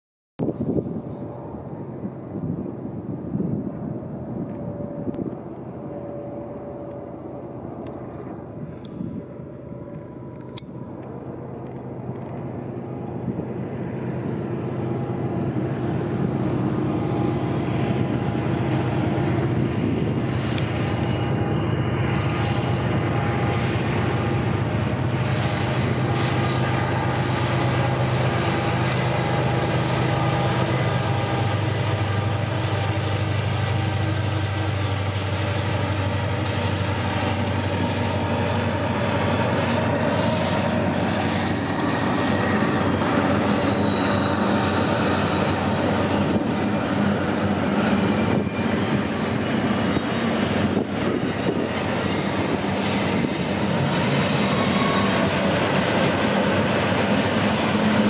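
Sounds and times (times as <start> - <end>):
locomotive engine drone: 0.4 - 58.0.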